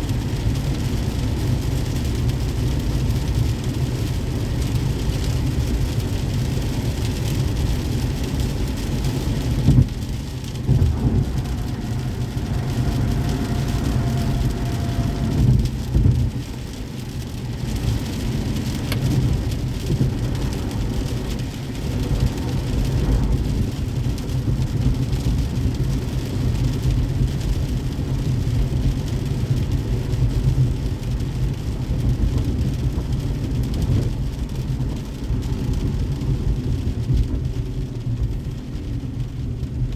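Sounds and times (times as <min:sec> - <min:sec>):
road rumble of car: 0:00.0 - 0:39.9
rain hissing: 0:00.1 - 0:39.8.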